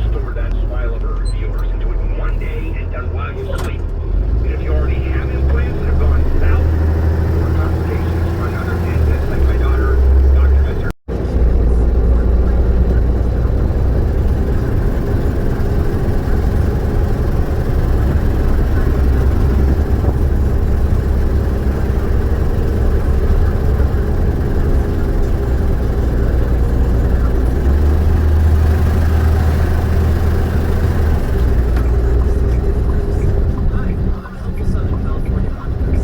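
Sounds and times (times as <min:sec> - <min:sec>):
truck diesel engine rumbling: 0:00.0 - 0:36.0.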